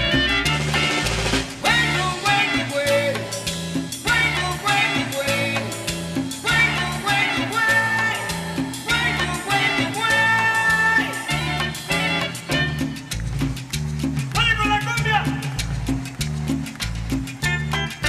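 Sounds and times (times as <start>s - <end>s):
latin dance band music: 0.0s - 18.0s.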